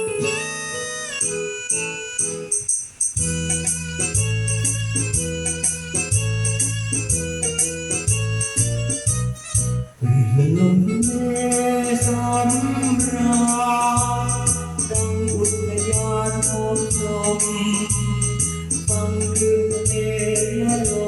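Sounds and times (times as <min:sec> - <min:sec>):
high ticking shaker beat: 0:00.0 - 0:21.0
organ-like melody: 0:00.0 - 0:21.0
stepping bass line: 0:03.2 - 0:21.0.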